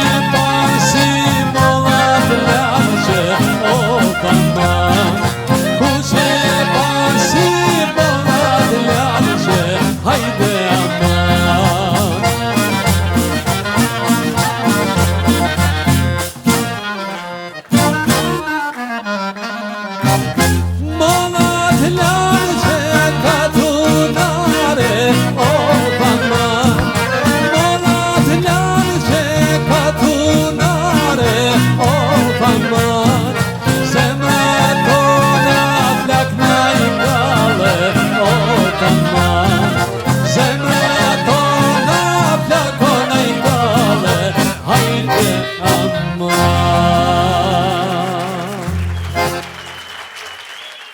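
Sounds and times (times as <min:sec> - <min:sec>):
folk dance music with accordion: 0:00.0 - 0:50.9.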